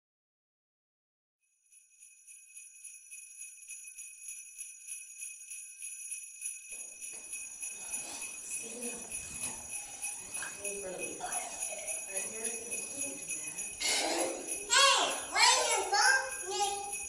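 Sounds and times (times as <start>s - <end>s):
jingle bells shaken: 1.7s - 17.0s.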